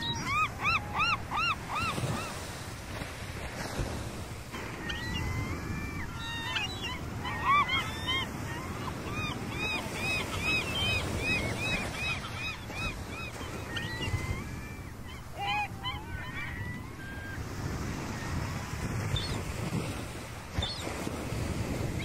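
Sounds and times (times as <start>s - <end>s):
gulls calling: 0.0s - 3.1s, 4.4s - 22.0s.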